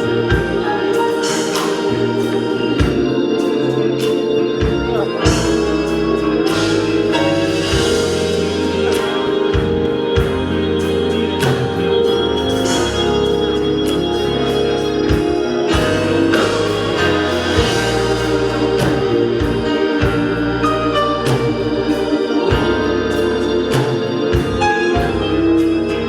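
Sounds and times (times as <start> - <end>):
electric organ chords: 0.0 - 26.0.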